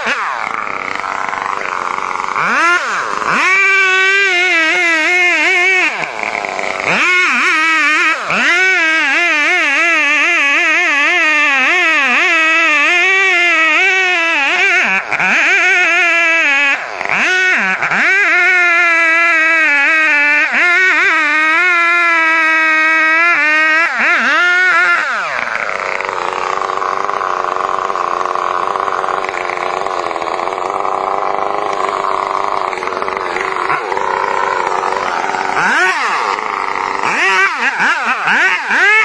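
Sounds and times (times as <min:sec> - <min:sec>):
chainsaw revving and cutting wood: 0:00.0 - 0:39.0.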